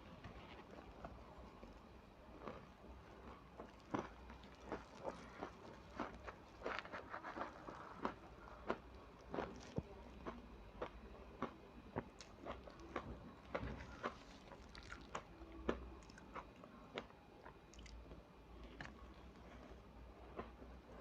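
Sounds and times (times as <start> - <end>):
crunching and chewing ice: 0.3 - 21.0.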